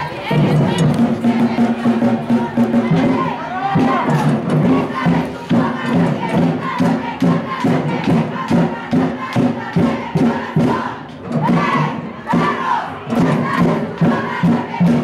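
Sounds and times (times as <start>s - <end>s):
crowd chanting and shouting: 0.0s - 15.0s
steady drum beat: 0.2s - 15.0s.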